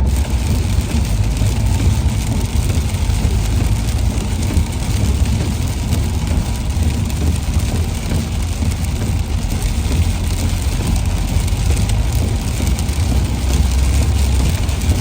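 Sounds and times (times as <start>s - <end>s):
rain and tyre spray hiss: 0.0s - 15.0s
road rumble: 0.0s - 15.0s.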